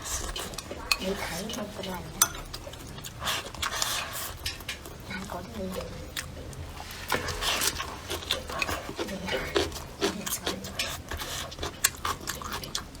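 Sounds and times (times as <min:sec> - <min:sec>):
chewing and gnawing on bones: 0:00.0 - 0:13.0.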